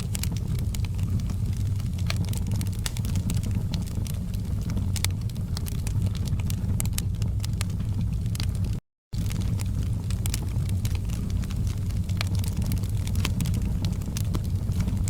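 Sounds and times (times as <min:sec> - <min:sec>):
fire crackling and snapping: 0:00.0 - 0:15.0
wood fire rumbling: 0:00.0 - 0:15.0.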